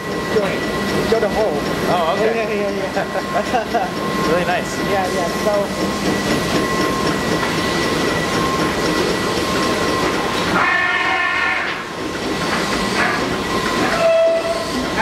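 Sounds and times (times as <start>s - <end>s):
high spindle whine: 0.0s - 15.0s.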